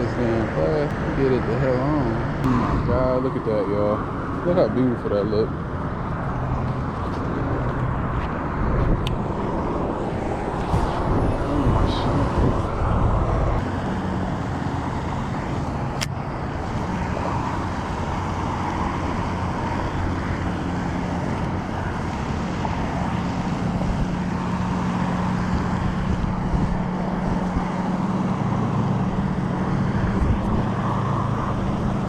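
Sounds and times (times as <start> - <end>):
engine hum: 0.0 - 32.0
traffic noise: 0.0 - 32.0.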